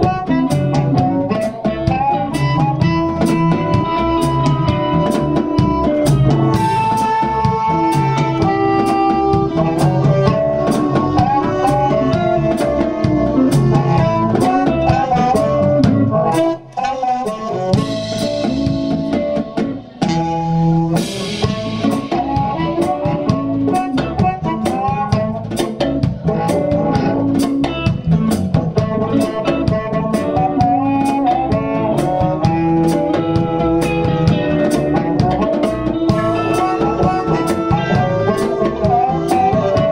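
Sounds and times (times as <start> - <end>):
harmonica lead line: 0.0 - 39.9
live blues band playing: 0.0 - 39.9.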